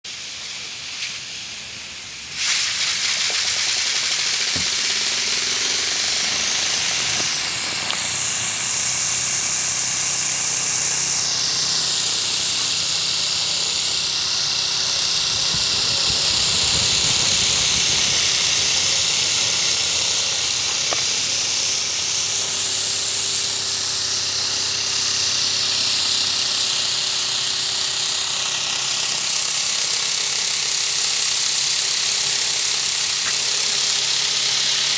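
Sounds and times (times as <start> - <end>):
high turbine whine: 0.1 - 34.9
steam hissing: 0.1 - 34.9.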